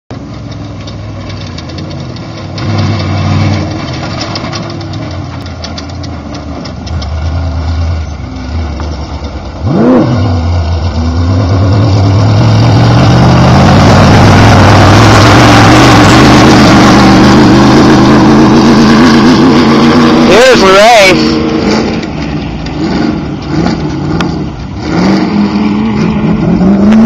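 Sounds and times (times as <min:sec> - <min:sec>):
race car engines revving: 0:00.1 - 0:27.0.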